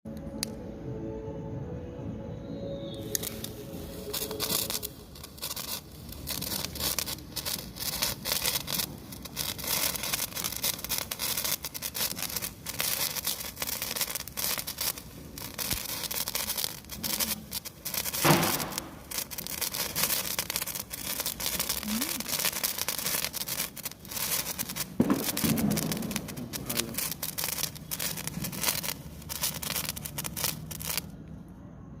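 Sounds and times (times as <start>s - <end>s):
sparkler crackling: 2.9s - 31.2s.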